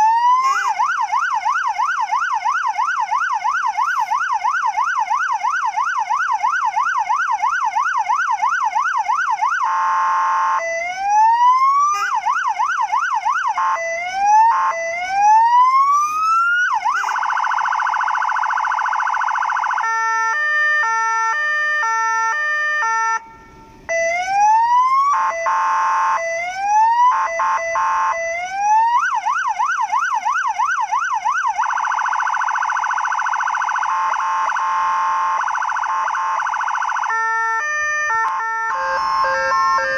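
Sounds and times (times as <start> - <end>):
electronic siren cycling tones: 0.0 - 39.9.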